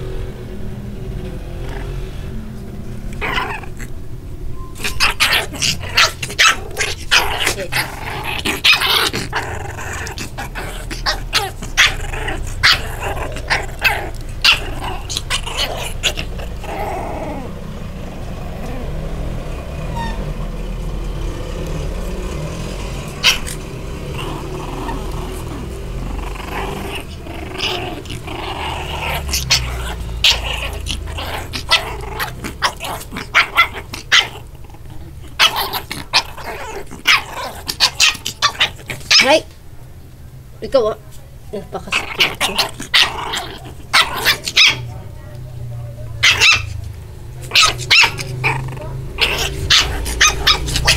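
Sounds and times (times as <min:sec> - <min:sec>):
puppies growling and yapping: 0:00.0 - 0:39.8, 0:41.7 - 0:44.9, 0:46.2 - 0:50.9.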